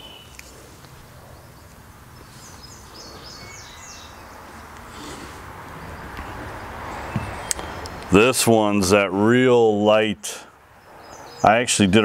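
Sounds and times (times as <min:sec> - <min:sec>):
bird chirping: 0:00.0 - 0:12.0
outdoor background noise: 0:00.0 - 0:12.0.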